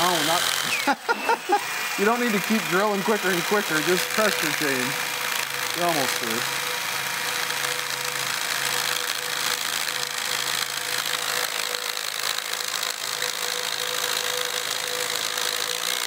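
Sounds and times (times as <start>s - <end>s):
power drill boring through metal: 0.0s - 16.0s.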